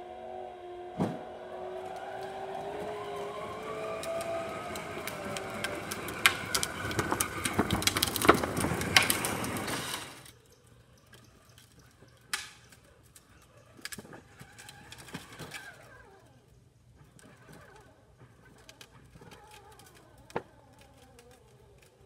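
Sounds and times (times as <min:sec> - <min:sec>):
electric toy motor whining: 0:00.0 - 0:10.4, 0:11.2 - 0:22.0
plastic wheels crackling on concrete: 0:00.0 - 0:22.0.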